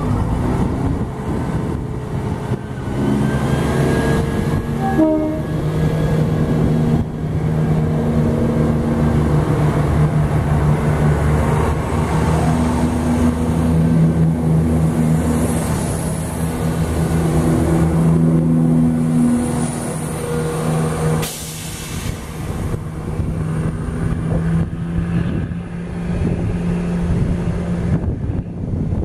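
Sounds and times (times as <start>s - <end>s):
diesel train engines droning: 0.0s - 29.0s
wheels rumbling on rail: 0.0s - 29.0s.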